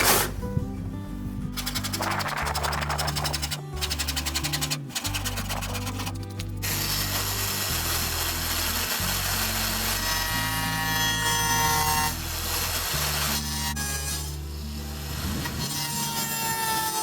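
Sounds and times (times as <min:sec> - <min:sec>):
background music with bass line: 0:00.0 - 0:15.9
power tool working wood: 0:03.4 - 0:17.0.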